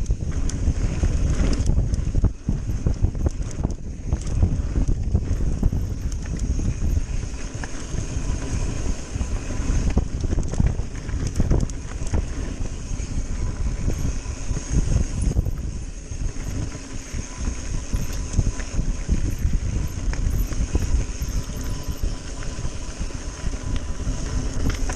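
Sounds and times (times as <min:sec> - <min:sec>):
bike rattling and knocking: 0:00.0 - 0:24.9
wind buffeting microphone: 0:00.0 - 0:24.9.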